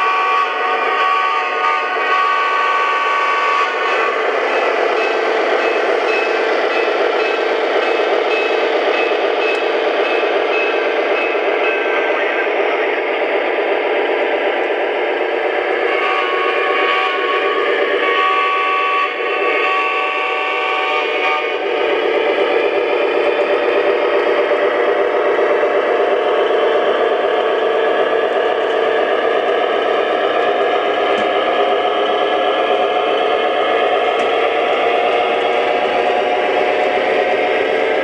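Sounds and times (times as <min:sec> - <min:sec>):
model trains clattering: 0:00.0 - 0:13.8, 0:14.5 - 0:38.0.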